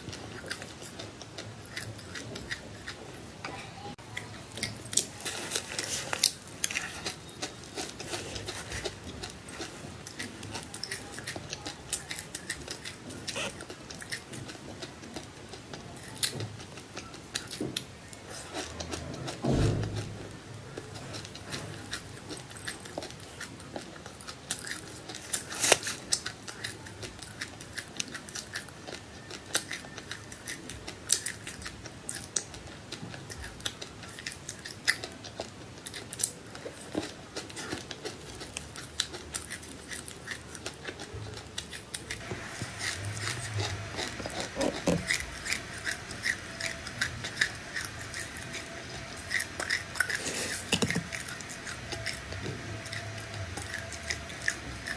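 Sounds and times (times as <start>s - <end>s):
seeds being chewed: 0.0s - 3.2s, 4.0s - 54.9s.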